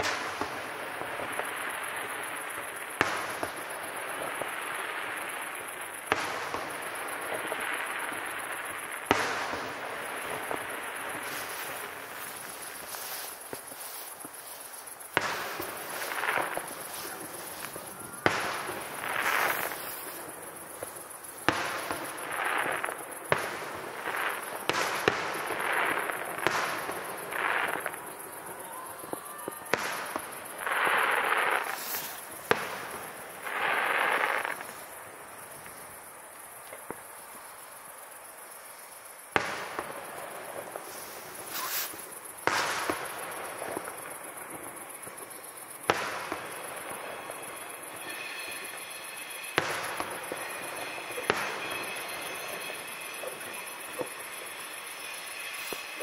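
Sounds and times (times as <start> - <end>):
fireworks bangs: 0.0 - 35.8, 39.3 - 56.0
fireworks crackling: 0.0 - 56.0.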